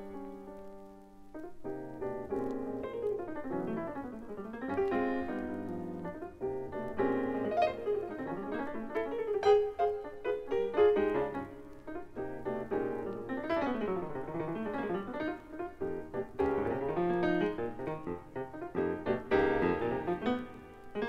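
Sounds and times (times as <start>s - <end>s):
solo jazz piano: 0.0s - 21.0s.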